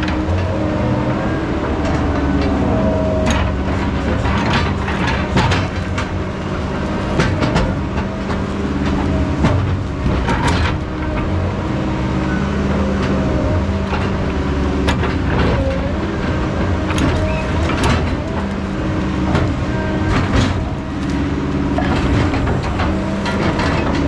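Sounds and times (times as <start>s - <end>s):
diesel machinery running: 0.0s - 24.0s
metallic clanks and knocks: 1.5s - 11.7s, 12.4s - 24.0s.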